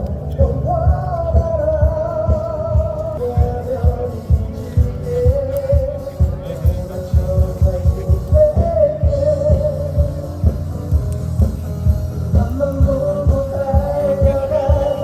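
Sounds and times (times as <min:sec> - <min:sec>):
music with steady low beat: 0:00.0 - 0:15.0.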